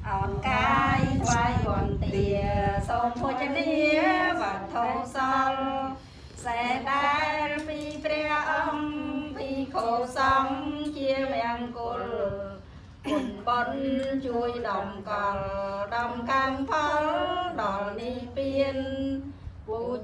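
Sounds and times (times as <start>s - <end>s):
women chanting in unison: 0.0s - 20.0s.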